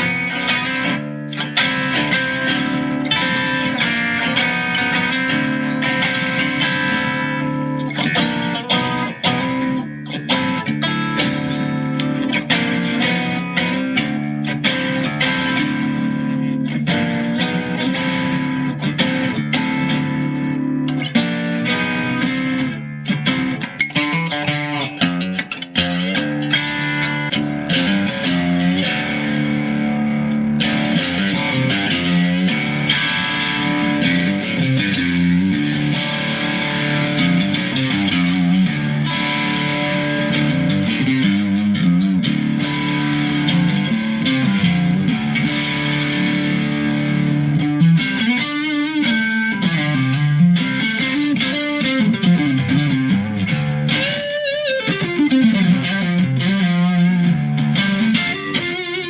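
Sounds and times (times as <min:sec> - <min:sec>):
electric guitar playing: 0:00.0 - 0:59.0.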